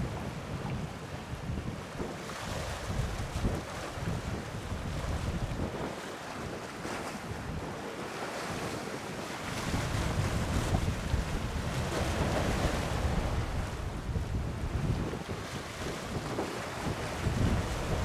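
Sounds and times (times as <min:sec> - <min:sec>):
wind buffeting microphone: 0:00.0 - 0:07.8, 0:09.5 - 0:18.0.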